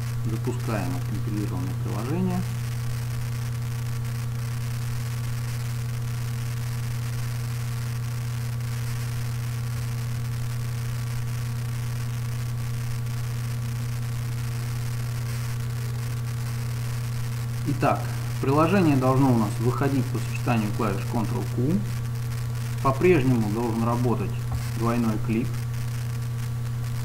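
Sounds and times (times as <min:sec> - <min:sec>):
faint crackle clicks: 0:00.0 - 0:27.0
low electrical hum: 0:00.0 - 0:27.0
microphone hiss: 0:00.0 - 0:27.0.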